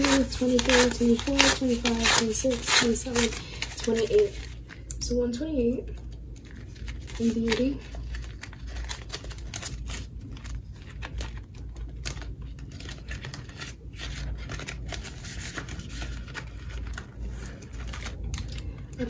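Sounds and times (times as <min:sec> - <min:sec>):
paper banknotes rustling: 0:00.0 - 0:04.8, 0:06.4 - 0:19.0
plastic pouch crinkling: 0:00.0 - 0:04.9, 0:06.0 - 0:19.0.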